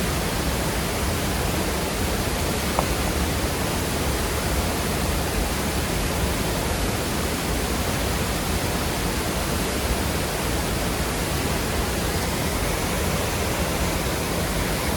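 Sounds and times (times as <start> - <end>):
waterfall rushing over rock: 0.0 - 14.9.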